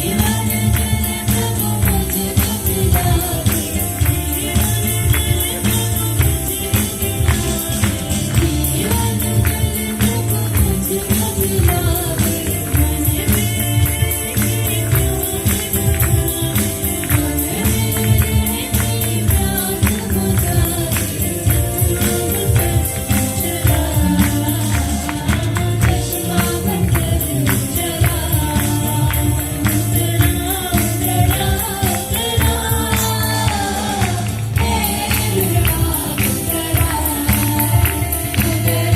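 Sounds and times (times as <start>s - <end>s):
band playing: 0.0s - 38.9s
choir singing gospel song: 0.0s - 38.9s
drums beating: 0.0s - 38.9s.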